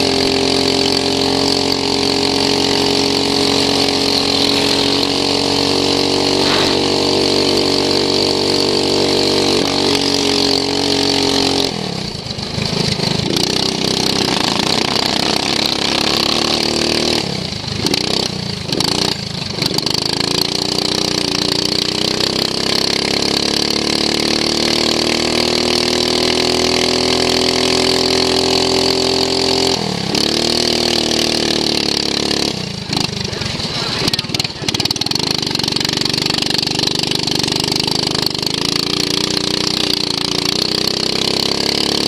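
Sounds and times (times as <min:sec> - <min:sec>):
lawn mower engine revving: 0:00.0 - 0:42.0.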